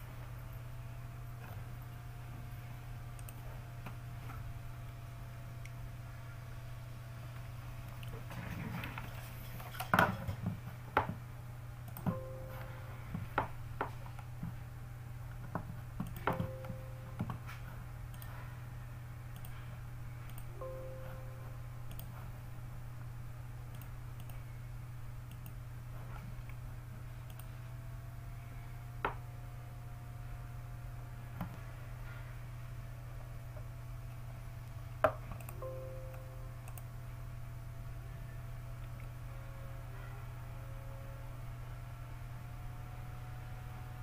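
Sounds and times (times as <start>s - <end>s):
low hum: 0.0s - 44.0s.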